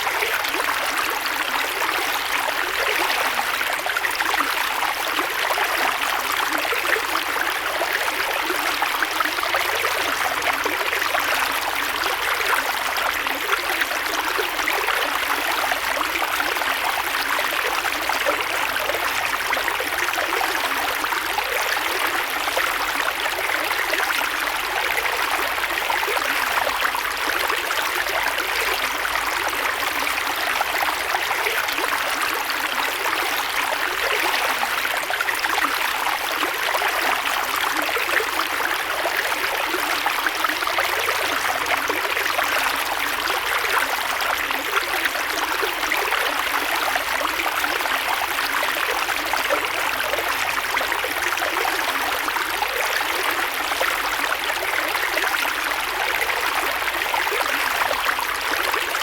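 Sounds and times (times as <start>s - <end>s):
creek water flowing over stones: 0.0s - 59.0s.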